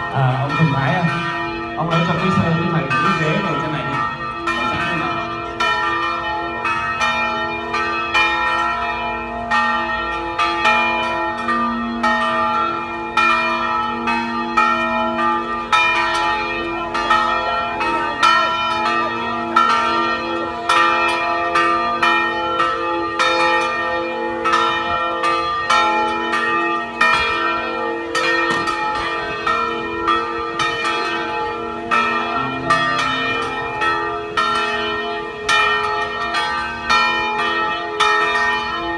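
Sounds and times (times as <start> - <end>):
peal of church bells: 0.0 - 38.9.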